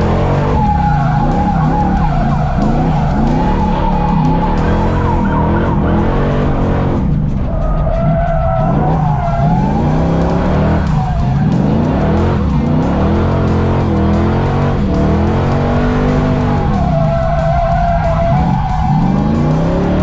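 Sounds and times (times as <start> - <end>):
car engines revving: 0.0 - 20.0
tires squealing: 0.0 - 20.0.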